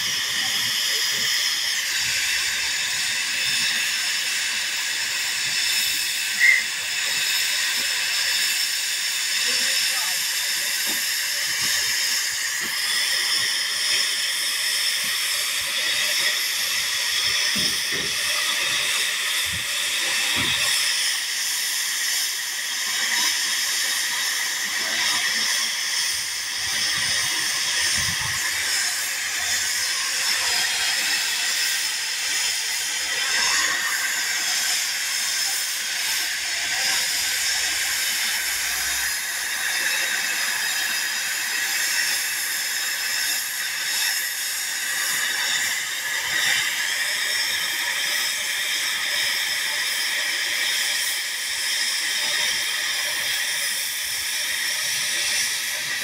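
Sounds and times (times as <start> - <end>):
locomotive steam hissing: 0.0 - 56.0.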